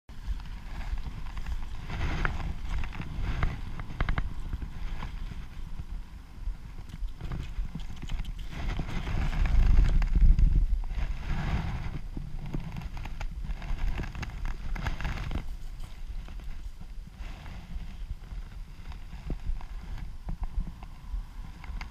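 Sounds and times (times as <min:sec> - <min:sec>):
knocks and rustling in grass: 0:00.1 - 0:21.9.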